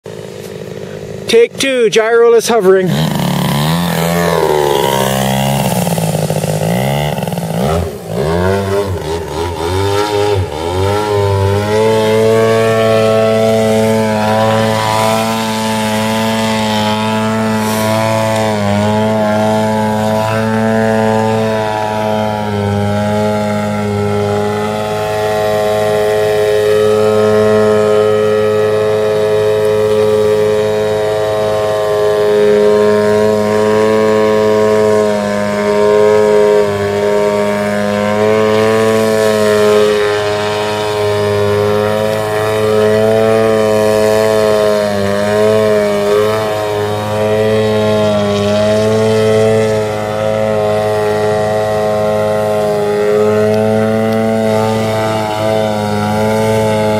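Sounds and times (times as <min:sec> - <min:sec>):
model plane engine: 0:00.0 - 0:56.9.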